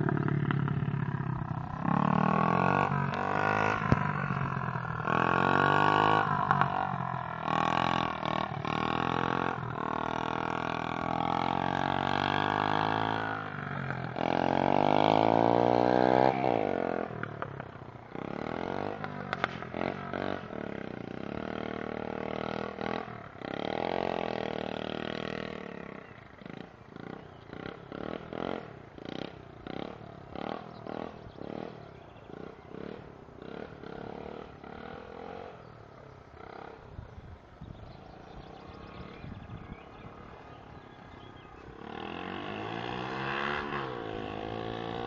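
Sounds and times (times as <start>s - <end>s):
pit bike engine revving: 0.0s - 37.2s, 37.8s - 45.0s.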